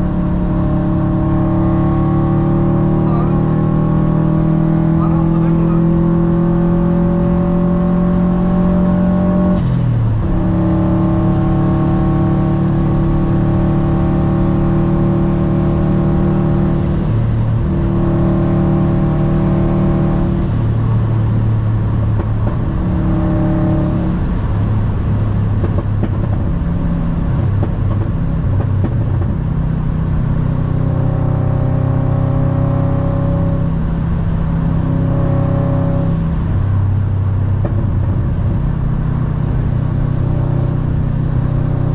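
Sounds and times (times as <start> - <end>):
car engine droning: 0.0 - 41.9
tyre and road noise: 0.0 - 41.9.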